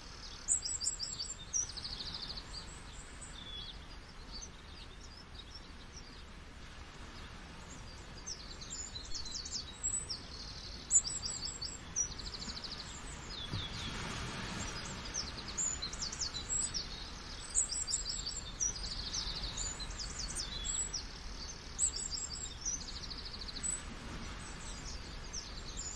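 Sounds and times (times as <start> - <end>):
rush of falling water: 0.0 - 25.9
songbirds chirping and trilling: 0.0 - 25.9.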